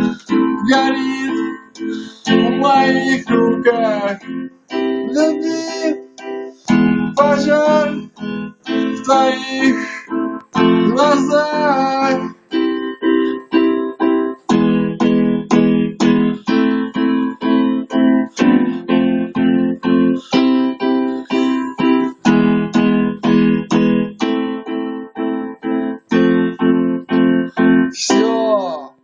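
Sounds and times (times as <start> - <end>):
electric keyboard chords: 0.0 - 29.0.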